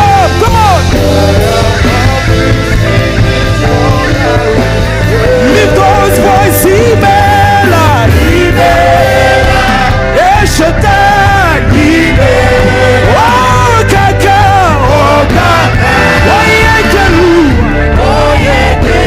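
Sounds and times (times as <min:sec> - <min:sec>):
band playing worship music: 0:00.0 - 0:19.0
people singing: 0:00.0 - 0:19.0.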